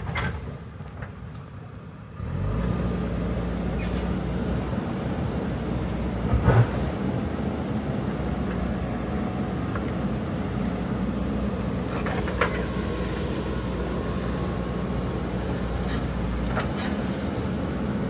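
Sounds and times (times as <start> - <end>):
diesel engine running: 2.2 - 18.0.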